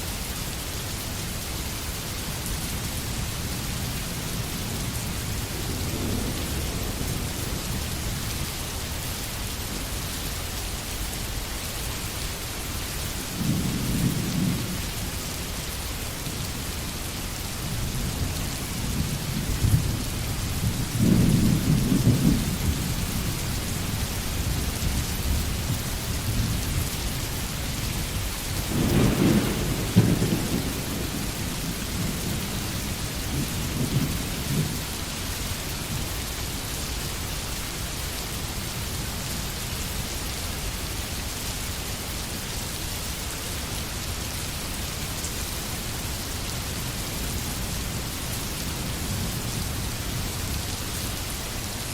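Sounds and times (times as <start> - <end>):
steady rain in forest: 0.0 - 51.9.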